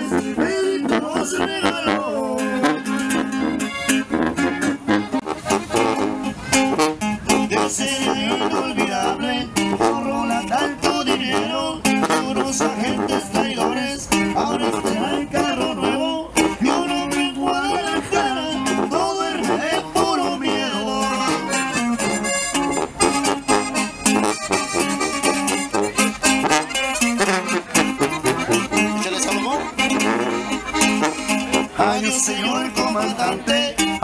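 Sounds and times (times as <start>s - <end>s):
accordion melody: 0.0s - 34.0s
sousaphone bass: 0.0s - 34.0s
strummed guitar: 0.0s - 34.0s.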